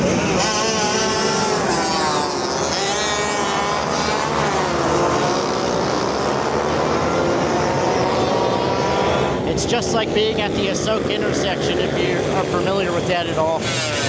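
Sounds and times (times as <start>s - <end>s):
small motorbikes revving and accelerating: 0.0s - 14.0s.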